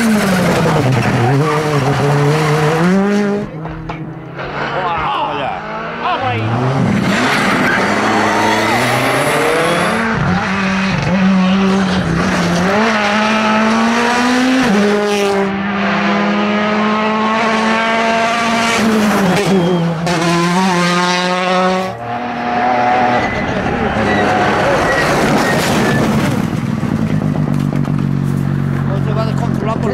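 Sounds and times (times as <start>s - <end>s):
rally car engines at high revs: 0.0s - 29.9s.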